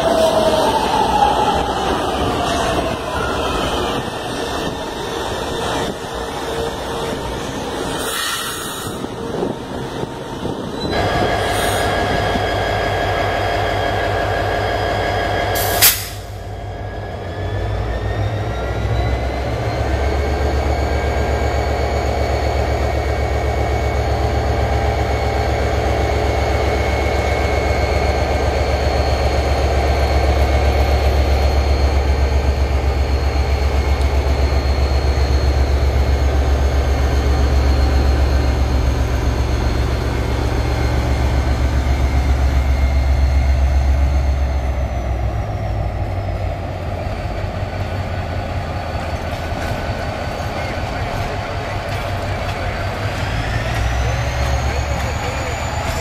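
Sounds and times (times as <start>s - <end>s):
diesel locomotive engine droning: 0.0s - 56.0s
electric train running past: 0.0s - 56.0s
steady whine: 0.0s - 56.0s.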